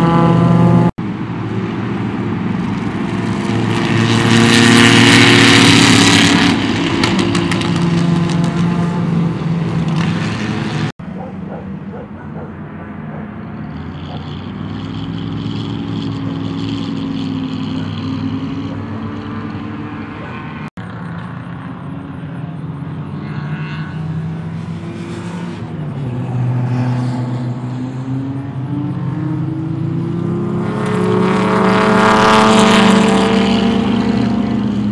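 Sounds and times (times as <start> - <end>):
race car engines running hard: 0.0 - 34.9
vee eight engine accelerating: 0.0 - 34.9.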